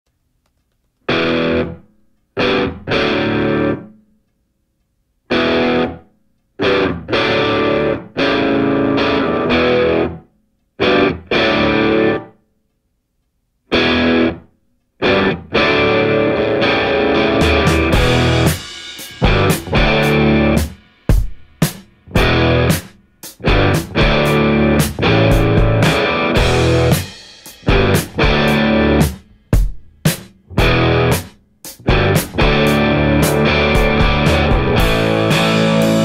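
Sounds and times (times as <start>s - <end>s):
distorted electric guitar riff: 1.1s - 3.9s, 5.3s - 6.0s, 6.6s - 10.2s, 10.8s - 12.3s, 13.7s - 29.7s, 30.5s - 36.0s.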